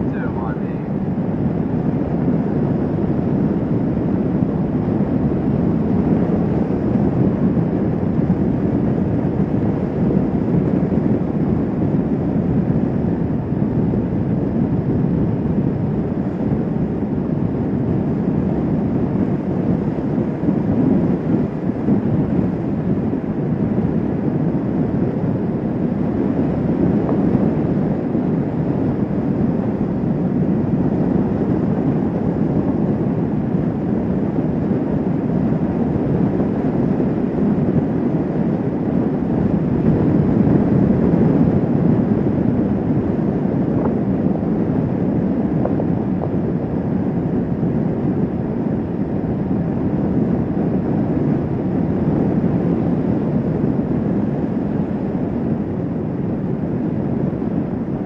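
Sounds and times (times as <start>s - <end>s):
wind rush: 0.0s - 58.0s.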